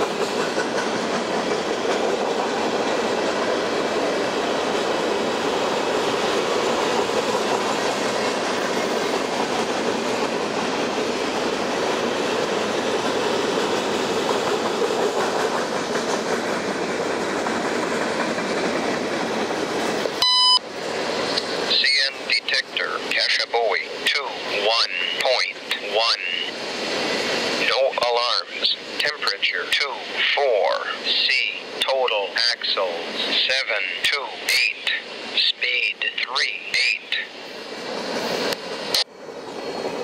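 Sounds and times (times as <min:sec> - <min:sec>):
freight train wheels rumbling: 0:00.0 - 0:40.0.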